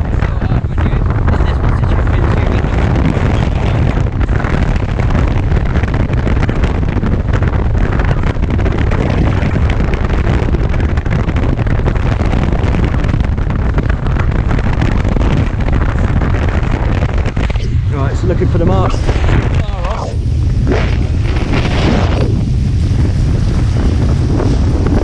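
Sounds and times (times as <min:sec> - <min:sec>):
water rushing along hulls: 0:00.0 - 0:25.0
wind buffeting microphone: 0:00.0 - 0:25.0.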